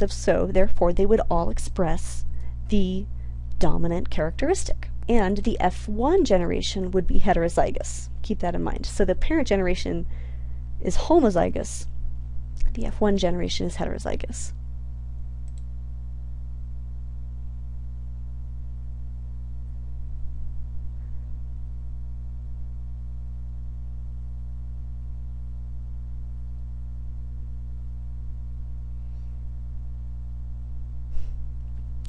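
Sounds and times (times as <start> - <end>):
electrical mains hum: 0.0 - 32.0.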